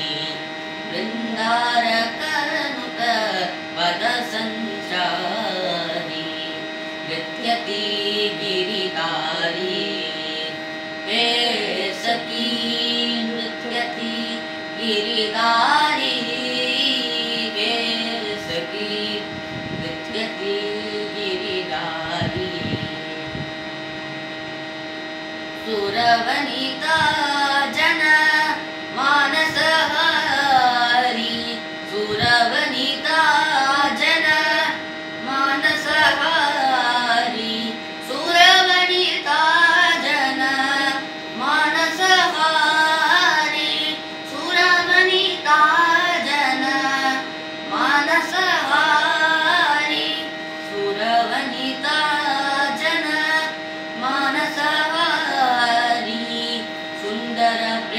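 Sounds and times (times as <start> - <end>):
boy singing devotional song: 0.0 - 23.9, 25.5 - 57.9
steady drone: 0.0 - 57.9.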